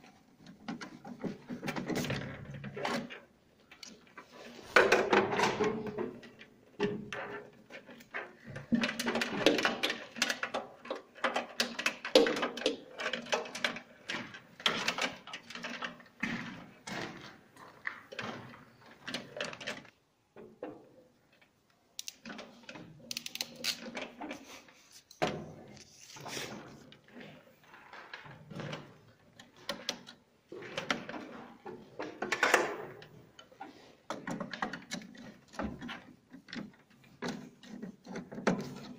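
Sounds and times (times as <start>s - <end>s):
hands handling wires in metal panel: 0.0s - 38.9s.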